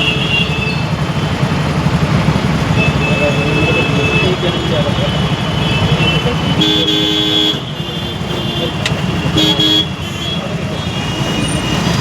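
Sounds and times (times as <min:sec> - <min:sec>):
vehicle horn honking: 0:00.0 - 0:01.0, 0:02.7 - 0:12.0
engine and road noise: 0:00.0 - 0:12.0.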